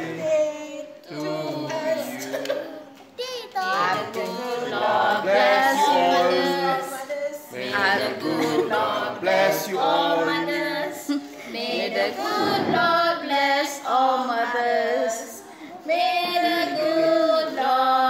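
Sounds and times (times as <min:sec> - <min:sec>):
group singing without instruments: 0:00.0 - 0:00.4, 0:01.0 - 0:03.0, 0:03.6 - 0:18.0.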